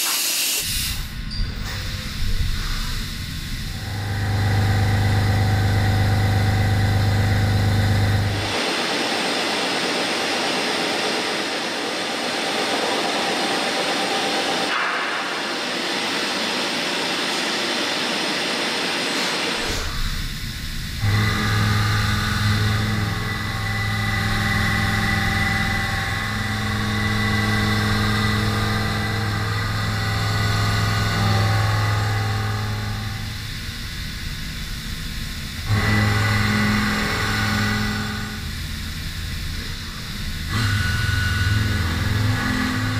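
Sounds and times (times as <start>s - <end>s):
machine spindle hum and whine: 0.6s - 42.9s.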